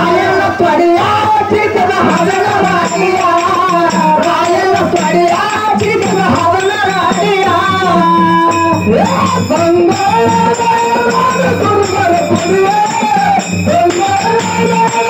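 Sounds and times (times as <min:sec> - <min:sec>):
man singing through a microphone: 0:00.0 - 0:15.0
steady percussion: 0:00.0 - 0:15.0.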